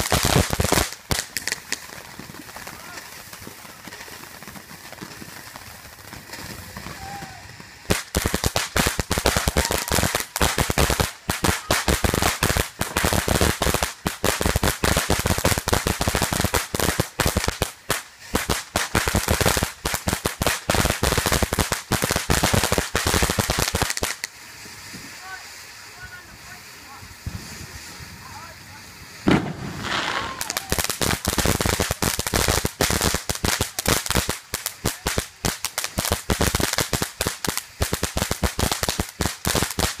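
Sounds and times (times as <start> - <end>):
firework hissing: 0.0 - 40.0
firework rapid crackling: 0.0 - 40.0.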